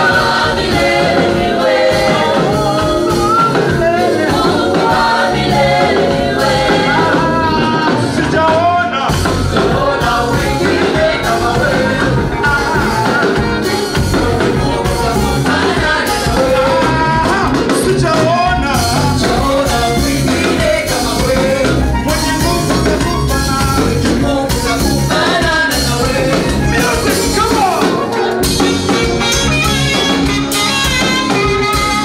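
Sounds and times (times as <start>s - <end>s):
voices singing praise song: 0.0s - 29.3s
band with bass and drums: 0.0s - 32.0s.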